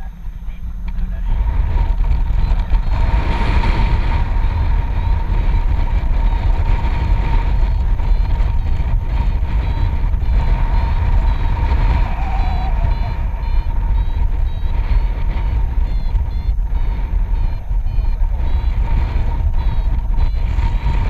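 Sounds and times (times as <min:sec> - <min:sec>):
electronic tone beeping: 0:00.0 - 0:21.0
wind rushing over microphone: 0:00.0 - 0:21.0.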